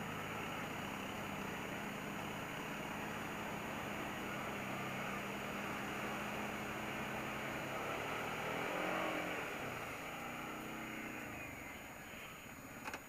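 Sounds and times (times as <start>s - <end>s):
atv engines running: 0.0s - 13.0s.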